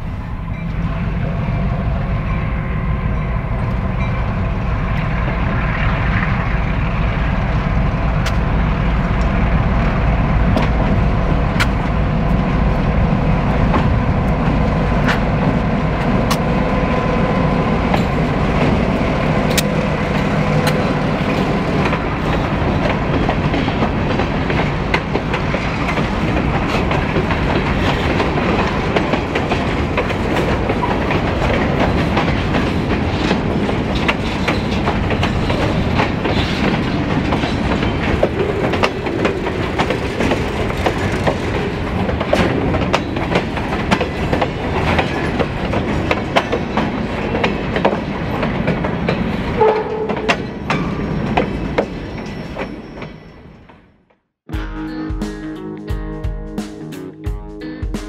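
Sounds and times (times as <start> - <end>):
diesel locomotive engines rumbling: 0.0 - 53.9
wheels clicking over rail joints: 3.5 - 53.8.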